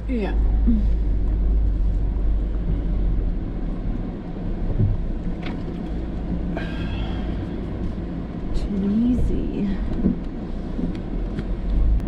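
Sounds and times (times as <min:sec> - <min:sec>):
engine and drivetrain rumble: 0:00.0 - 0:12.0.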